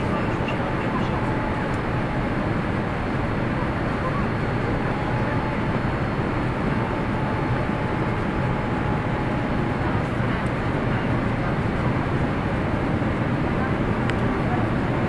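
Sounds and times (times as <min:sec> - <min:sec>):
airplane cabin airflow and engine noise: 0:00.0 - 0:15.0
faint whine: 0:00.0 - 0:15.0.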